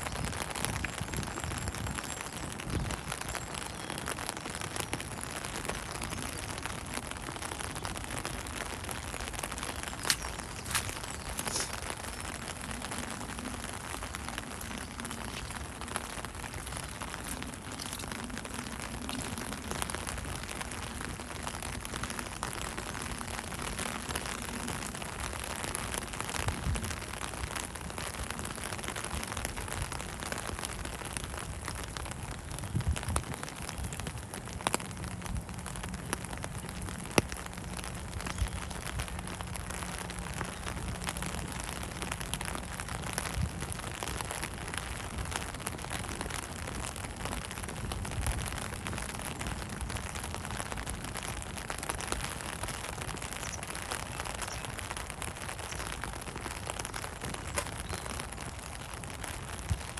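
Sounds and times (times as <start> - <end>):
rain patter: 0.0 - 59.9.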